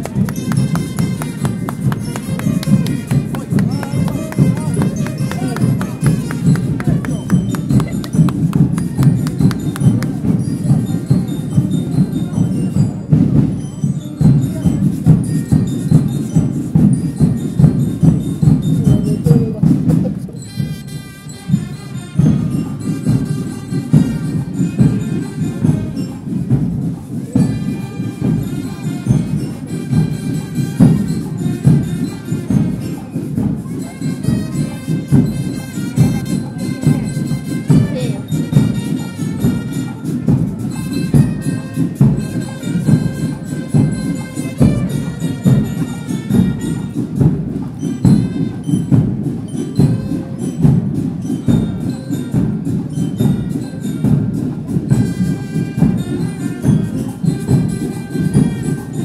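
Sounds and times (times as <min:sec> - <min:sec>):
bell-like melody: 0:00.0 - 0:59.0.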